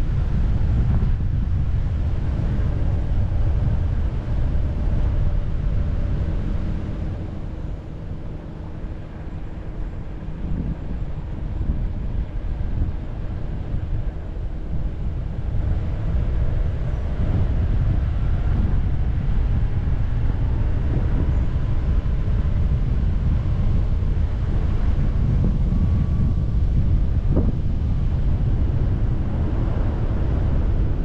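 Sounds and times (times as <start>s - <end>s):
car driving rumble: 0.0s - 31.0s
wind noise on microphone: 0.0s - 31.0s.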